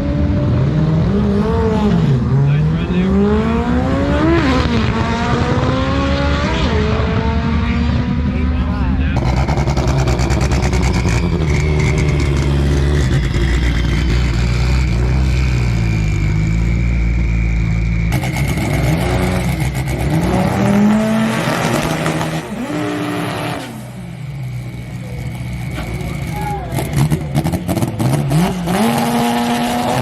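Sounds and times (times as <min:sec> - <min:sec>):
drag car engines revving: 0:00.0 - 0:30.0.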